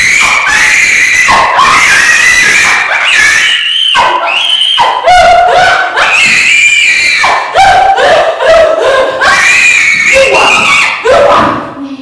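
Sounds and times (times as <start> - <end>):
woman screaming: 0.0 - 11.4.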